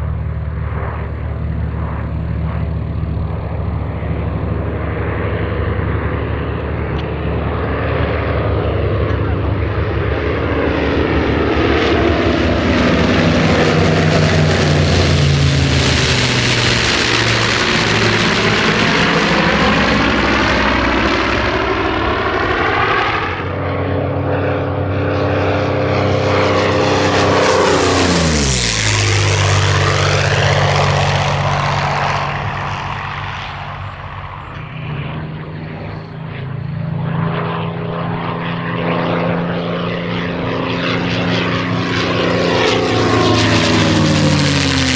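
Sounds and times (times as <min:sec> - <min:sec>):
propeller plane engine drone: 0:00.0 - 0:44.9.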